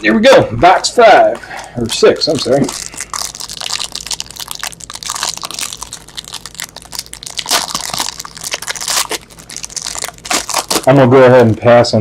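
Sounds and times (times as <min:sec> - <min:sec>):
plastic wrapping crinkling and tearing: 0:01.1 - 0:12.0.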